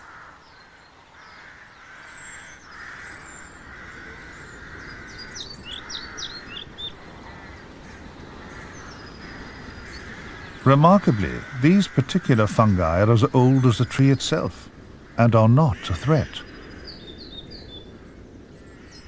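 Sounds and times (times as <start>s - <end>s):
wild birds calling: 0.0s - 19.0s.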